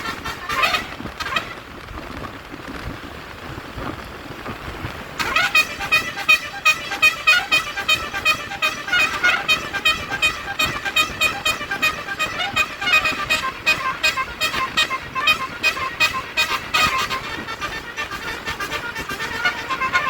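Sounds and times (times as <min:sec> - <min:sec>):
musical bus horn tune: 0:00.0 - 0:01.6, 0:05.2 - 0:20.0
traffic noise: 0:00.0 - 0:20.0.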